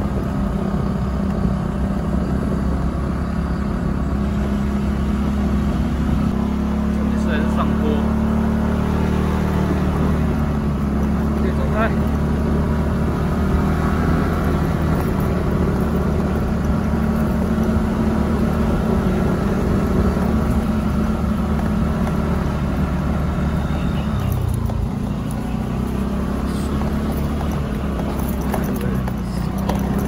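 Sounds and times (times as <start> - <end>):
motorbike engine running: 0.0 - 30.0.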